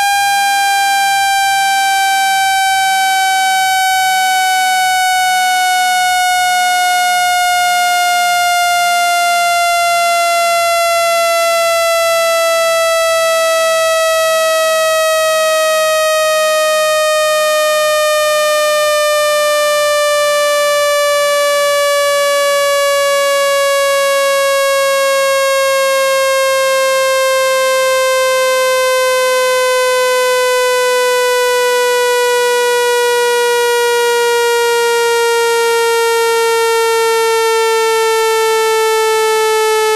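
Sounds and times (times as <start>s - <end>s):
buzzing tone sliding downward: 0.0s - 39.9s.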